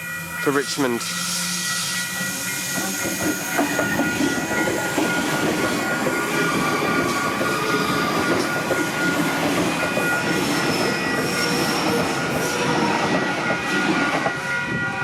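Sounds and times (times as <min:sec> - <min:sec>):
level crossing bells: 0:00.0 - 0:12.3
train wheels clattering on rails: 0:02.1 - 0:15.0.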